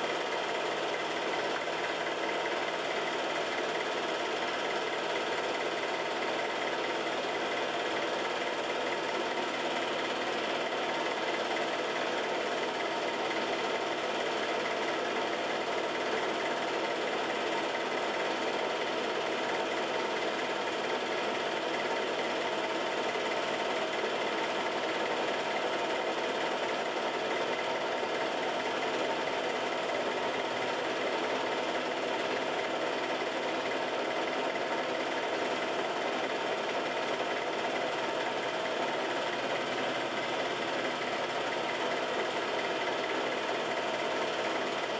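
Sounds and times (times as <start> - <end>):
film projector whirr and clatter: 0.0 - 44.9.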